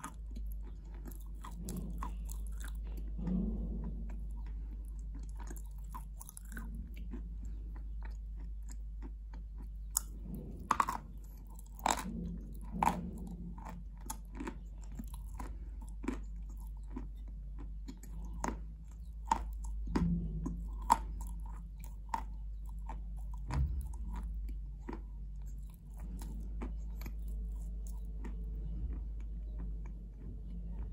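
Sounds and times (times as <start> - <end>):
person chewing crunchy paste: 0.0 - 30.9.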